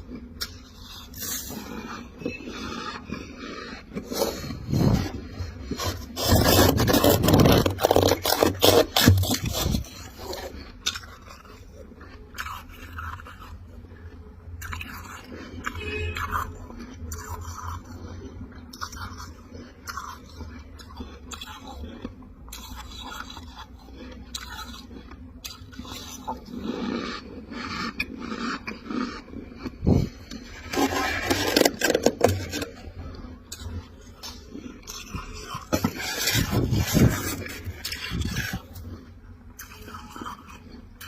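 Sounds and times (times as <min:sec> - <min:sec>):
spoon scraping frost: 0:00.0 - 0:13.6, 0:21.0 - 0:41.0
frost being chewed: 0:00.0 - 0:41.0.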